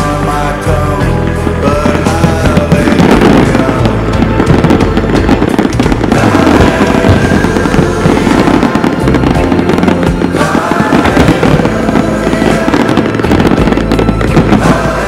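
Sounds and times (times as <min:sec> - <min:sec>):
music playing: 0:00.0 - 0:15.0
fireworks bursting and crackling: 0:01.4 - 0:15.0.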